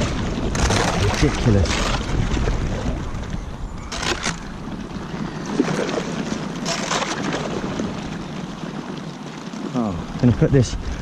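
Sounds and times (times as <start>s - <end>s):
paddle crunching through ice: 0.0s - 3.2s, 3.8s - 9.8s.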